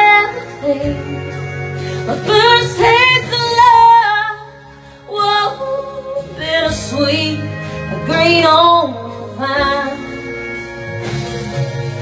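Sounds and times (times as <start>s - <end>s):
woman singing country ballad: 0.0s - 10.8s
backing music: 0.0s - 12.0s.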